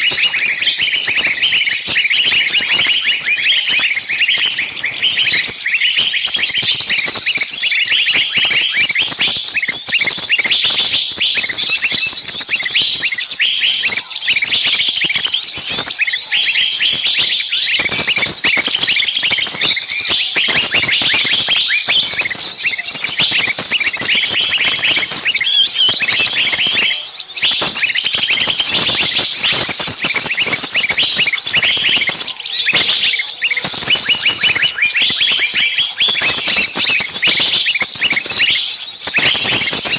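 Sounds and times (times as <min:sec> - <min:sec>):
small birds chirping shrilly: 0:00.0 - 0:39.9.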